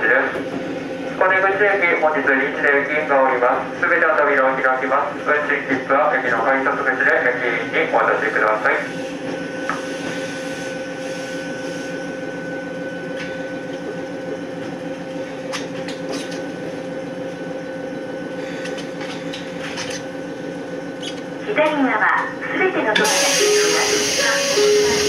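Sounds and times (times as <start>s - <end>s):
electrical hum with high whine: 0.0s - 25.0s.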